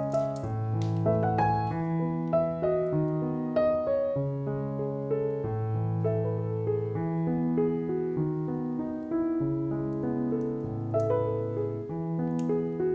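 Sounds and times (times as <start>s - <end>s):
piano music: 0.0s - 12.9s.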